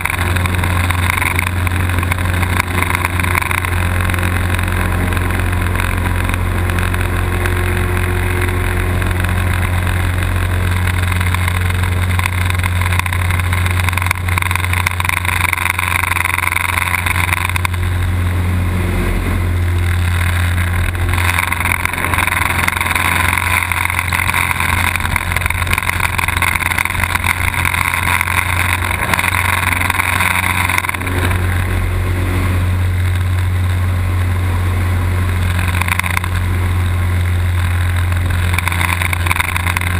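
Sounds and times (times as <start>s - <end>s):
rushing noise: 0.0s - 39.9s
small plane piston engine droning: 0.0s - 39.9s.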